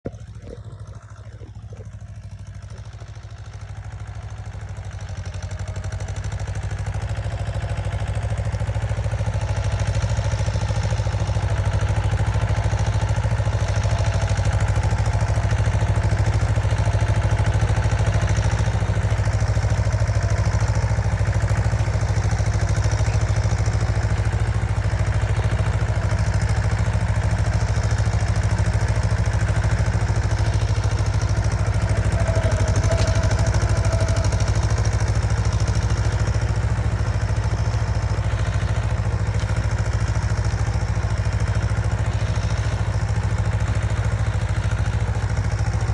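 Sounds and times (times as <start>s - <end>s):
tractor diesel engines droning: 0.0s - 45.9s.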